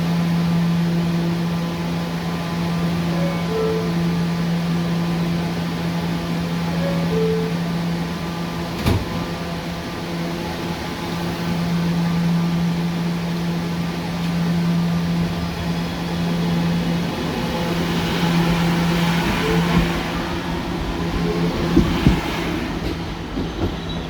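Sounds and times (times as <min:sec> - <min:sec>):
subway train electrical hum: 0:00.0 - 0:24.0
train motor whine: 0:00.0 - 0:24.0.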